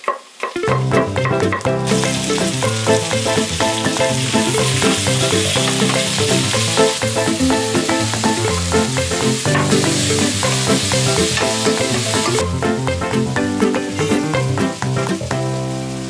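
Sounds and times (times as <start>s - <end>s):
onions sizzling in hot oil: 0.0s - 16.0s
background music: 0.6s - 16.0s.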